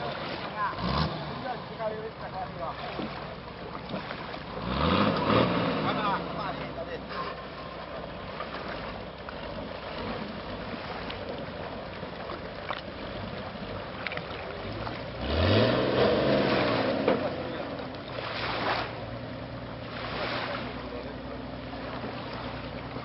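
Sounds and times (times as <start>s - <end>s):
boat motor running and revving: 0.0s - 23.0s.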